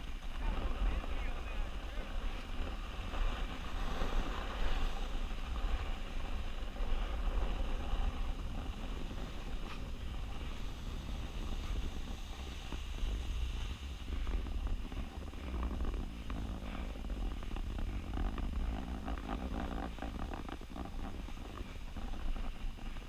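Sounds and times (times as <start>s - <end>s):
sliding on packed snow: 0.0s - 23.0s
wind buffeting microphone: 0.0s - 23.0s.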